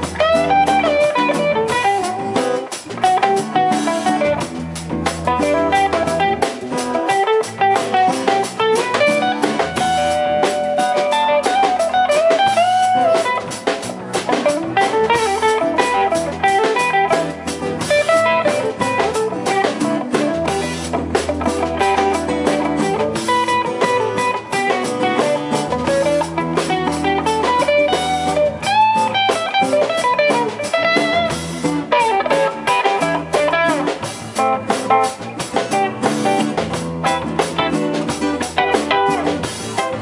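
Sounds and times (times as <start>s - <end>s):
lead guitar bending notes: 0.0s - 40.0s
live rock band playing: 0.0s - 40.0s.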